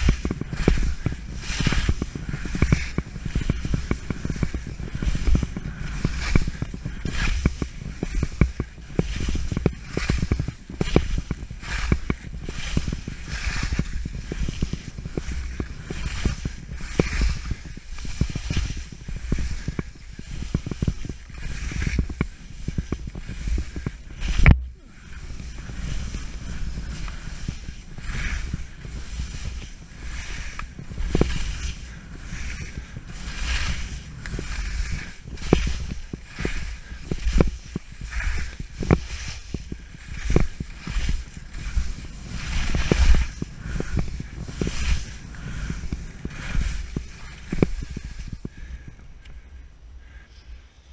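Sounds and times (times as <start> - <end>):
skis scraping through snow: 0.0 - 49.5
wind rumble on microphone: 0.0 - 50.9.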